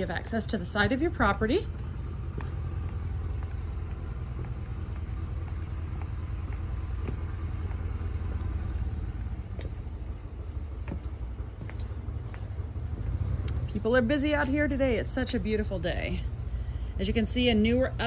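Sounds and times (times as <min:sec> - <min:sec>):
faint footsteps on pavers: 0:00.0 - 0:18.0
low motor rumble: 0:00.0 - 0:18.0.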